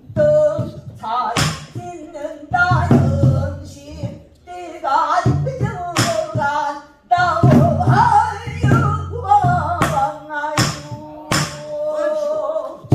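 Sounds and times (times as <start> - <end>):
wavering ornamented singing voice: 0.0 - 12.9.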